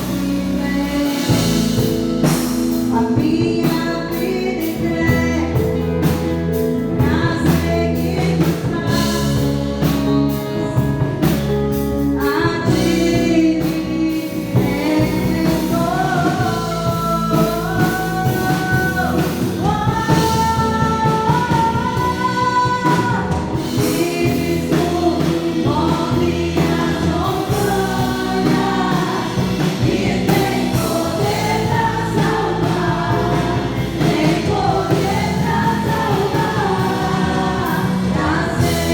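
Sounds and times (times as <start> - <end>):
bass guitar: 0.0 - 38.9
drums: 0.0 - 38.9
sustained keyboard chords: 0.0 - 38.9
voices singing gospel: 0.0 - 38.9.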